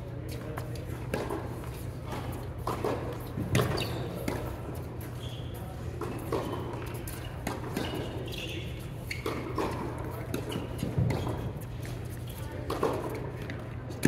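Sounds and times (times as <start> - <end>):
tennis ball bouncing: 0.7 - 4.9, 6.0 - 14.0.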